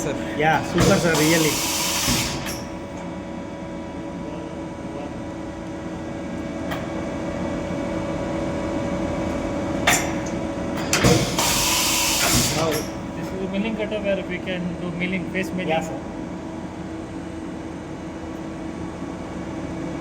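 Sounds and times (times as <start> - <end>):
machining centre humming: 0.0 - 20.0.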